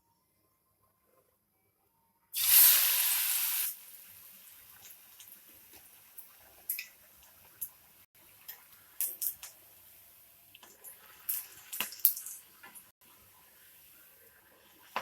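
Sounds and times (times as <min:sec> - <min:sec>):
food sizzling in hot oil: 0:02.4 - 0:15.0.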